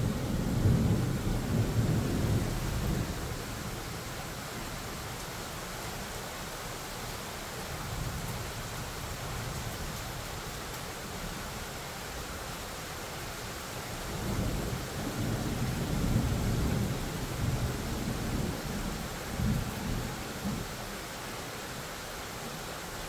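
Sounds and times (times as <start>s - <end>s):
rain hiss: 0.0s - 23.0s.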